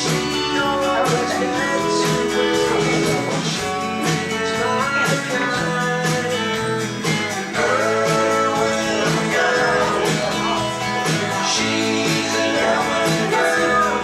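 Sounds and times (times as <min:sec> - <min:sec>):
person singing: 0:00.0 - 0:06.5, 0:07.4 - 0:14.0
acoustic guitar: 0:00.0 - 0:14.0
bass line: 0:00.0 - 0:14.0.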